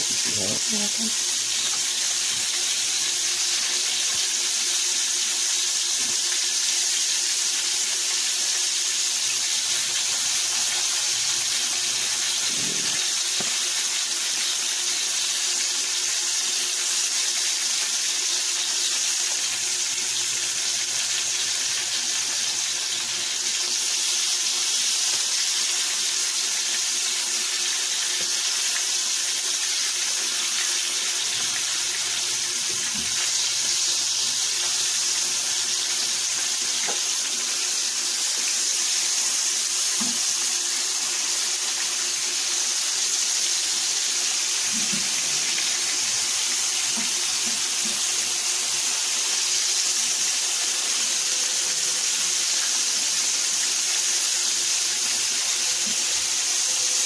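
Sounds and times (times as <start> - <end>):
liver sizzling in a frying pan: 0.0 - 57.0.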